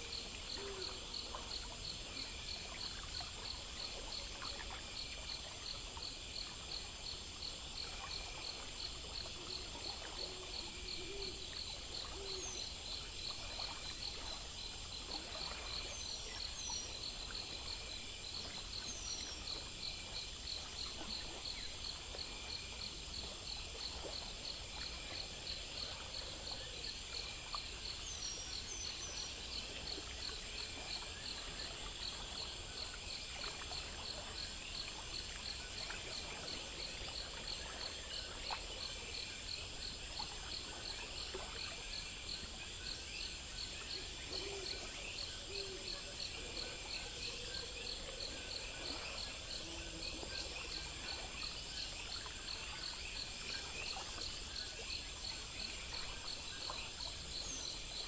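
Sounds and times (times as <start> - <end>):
insects chirping: 0.0 - 58.0
soft continuous hiss: 0.0 - 58.0.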